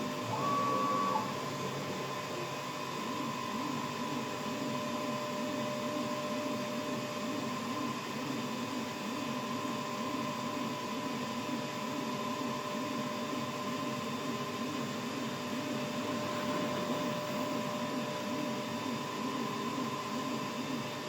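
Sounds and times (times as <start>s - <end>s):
machine motor humming and whining: 0.0s - 21.0s.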